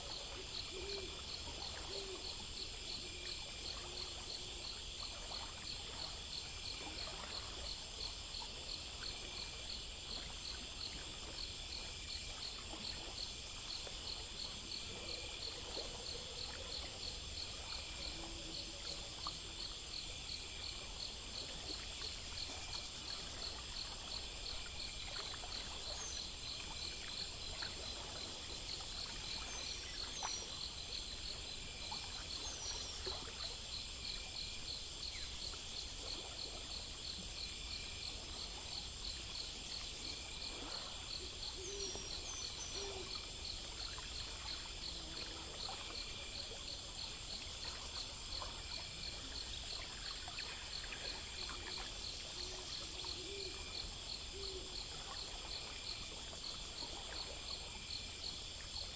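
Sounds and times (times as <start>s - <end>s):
crickets and insects chirping: 0.0s - 58.9s.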